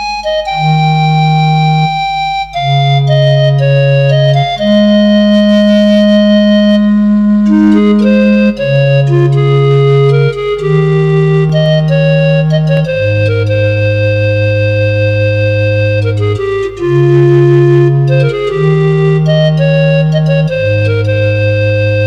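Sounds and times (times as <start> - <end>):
organ-like electronic keyboard music: 0.0 - 22.0.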